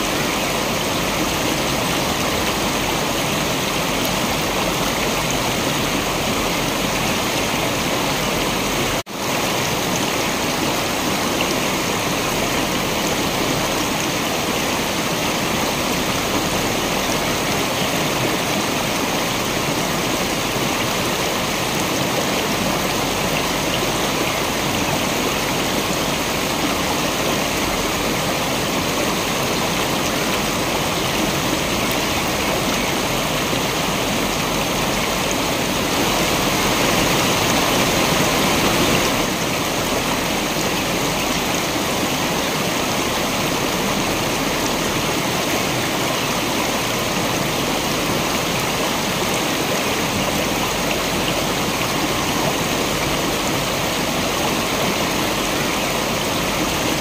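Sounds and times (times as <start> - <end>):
waterfall rushing water: 0.0 - 57.0.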